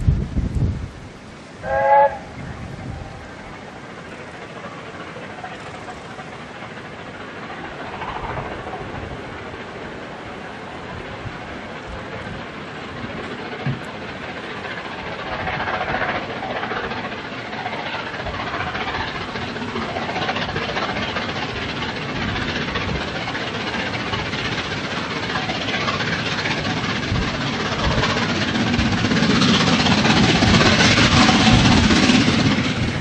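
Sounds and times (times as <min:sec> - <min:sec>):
train running on tracks: 0:00.0 - 0:33.0.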